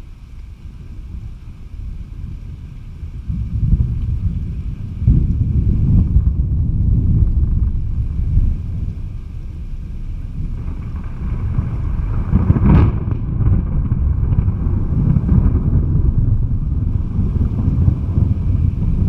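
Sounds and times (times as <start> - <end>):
thunder rumbling: 0.0 - 19.0
sharp thunder crack: 0.8 - 19.0.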